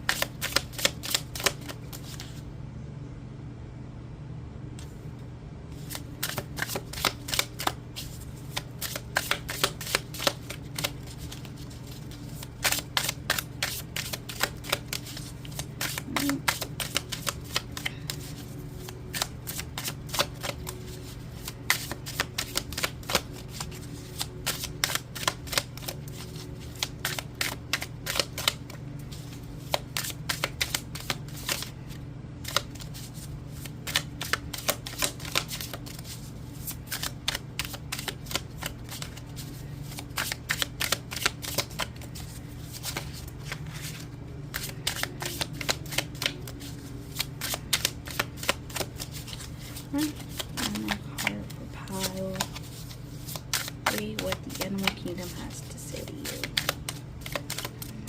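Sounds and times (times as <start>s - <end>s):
cards being shuffled: 0.0s - 2.4s, 5.7s - 58.0s
low steady hum: 0.0s - 58.0s.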